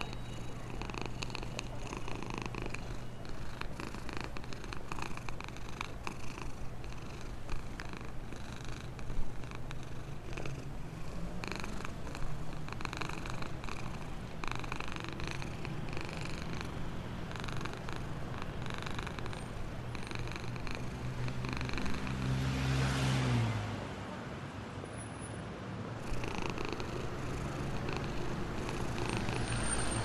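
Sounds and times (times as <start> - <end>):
cat purring: 0.0 - 22.4, 26.0 - 30.0.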